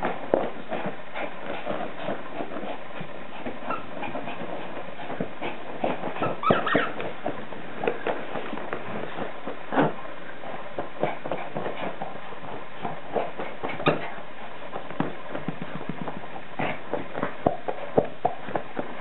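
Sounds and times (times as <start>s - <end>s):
dog tugging cloth on carpet: 0.0s - 19.0s.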